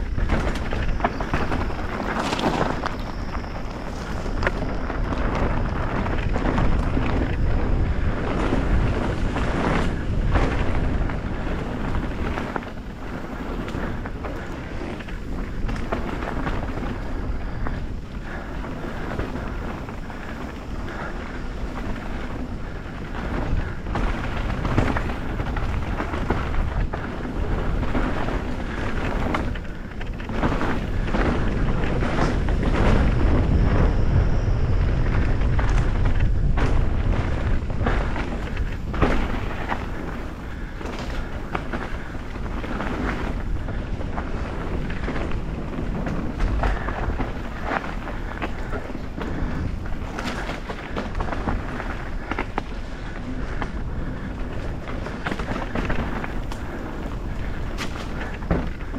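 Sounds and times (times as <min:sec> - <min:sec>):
bike rattling and knocking: 0:00.0 - 0:58.9
bike tyres rolling over dirt: 0:00.0 - 0:58.9
wind rumble on microphone: 0:00.0 - 0:58.9.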